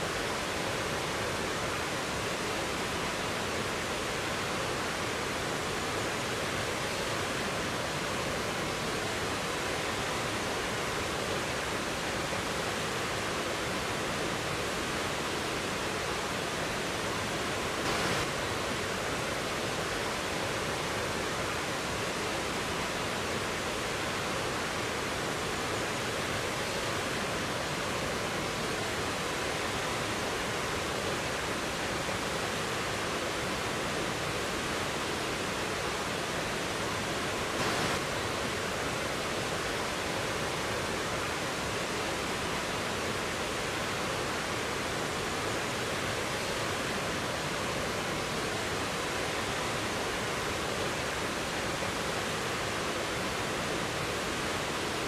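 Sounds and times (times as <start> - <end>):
waterfall and rapids rushing: 0.0 - 55.0.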